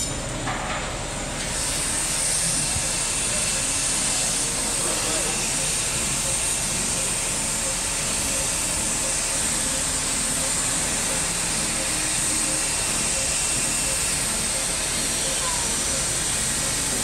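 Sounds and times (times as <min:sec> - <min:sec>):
city street and construction noise: 0:00.0 - 0:17.0.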